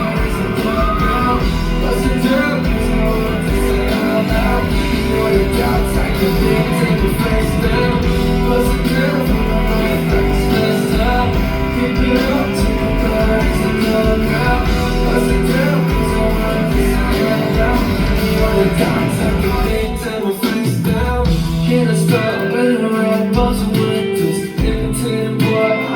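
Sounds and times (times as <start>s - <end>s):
live pop-rock music with guitar: 0.0s - 25.9s
person singing: 0.0s - 25.9s.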